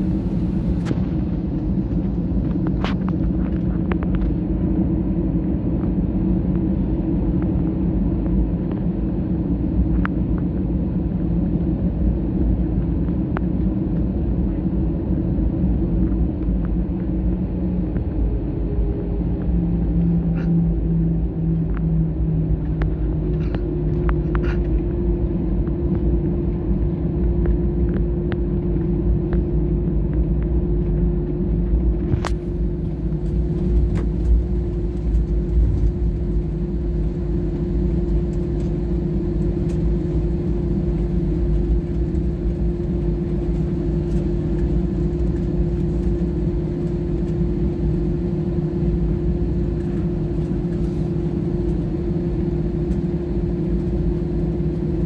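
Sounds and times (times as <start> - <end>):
jet engines humming: 0.0 - 55.0
low rumble: 0.0 - 55.0.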